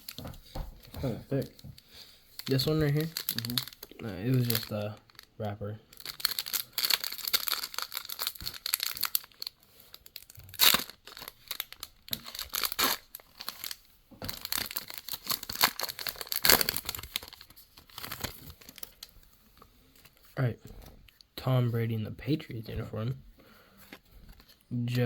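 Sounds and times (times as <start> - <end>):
plastic wrappers crinkling and tearing: 0.0 - 20.4, 23.8 - 25.0.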